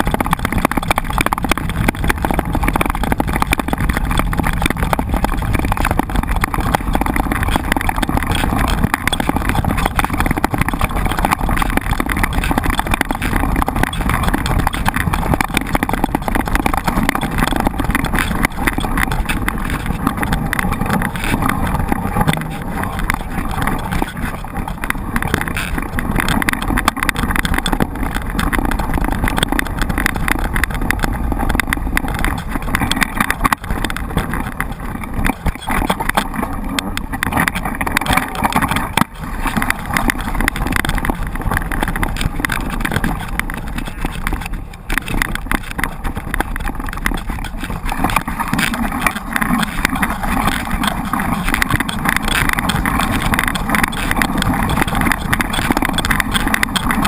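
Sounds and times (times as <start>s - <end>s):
bike tyres rattling and crunching: 0.0s - 57.0s
wind rushing over microphone: 0.0s - 57.0s.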